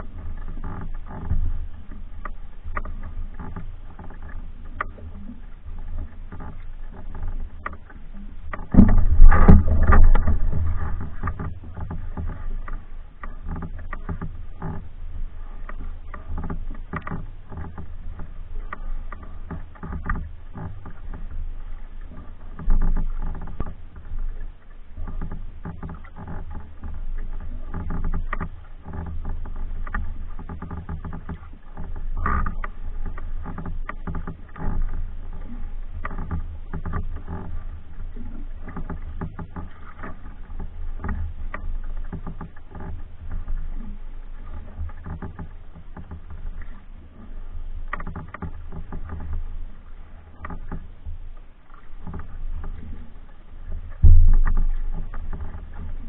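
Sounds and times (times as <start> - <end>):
low steady rumble: 0.0 - 56.0
paddle strokes splashing: 0.0 - 56.0.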